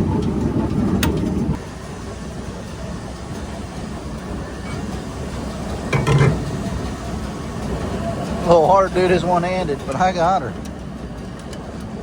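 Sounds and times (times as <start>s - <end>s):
conveyor machinery running: 0.0s - 12.0s.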